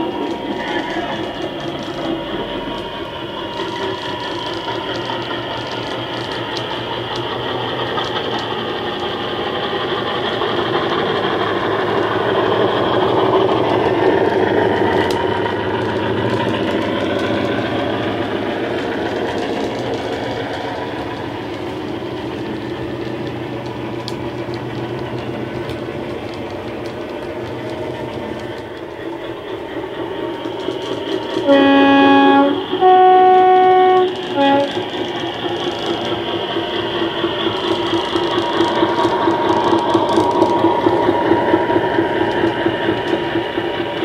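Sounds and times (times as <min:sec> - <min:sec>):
diesel locomotive engine running: 0:00.0 - 0:44.0.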